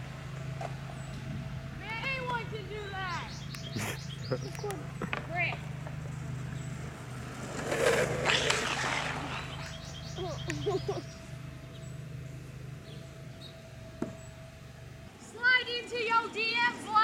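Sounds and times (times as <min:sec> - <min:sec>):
longboard wheels rolling on asphalt: 0:00.0 - 0:17.0.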